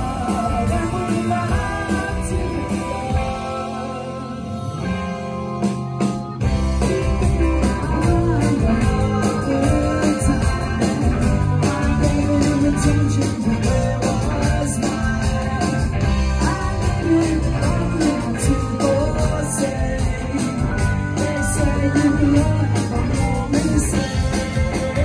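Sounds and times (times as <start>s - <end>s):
live rock band playing: 0.0s - 25.0s
person singing: 0.0s - 25.0s.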